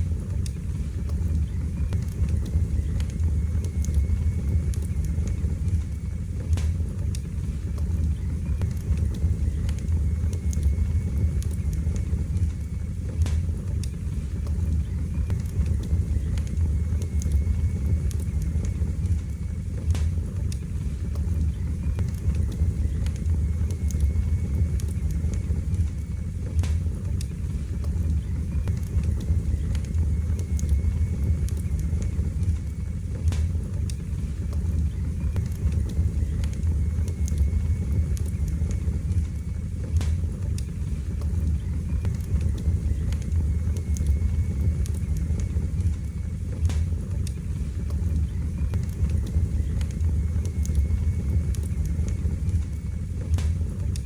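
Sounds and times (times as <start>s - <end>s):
fire crackles and pops: 0.0s - 54.0s
wood fire roaring: 0.0s - 54.0s.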